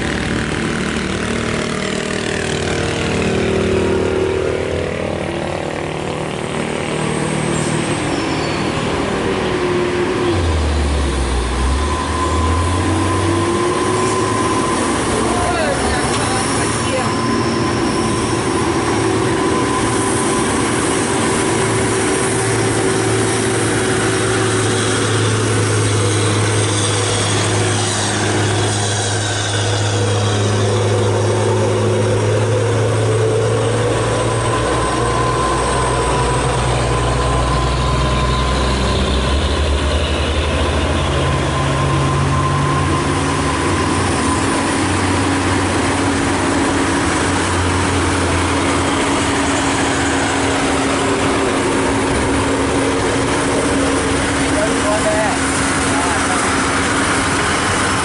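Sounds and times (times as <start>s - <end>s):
diesel truck engines droning: 0.0s - 58.0s.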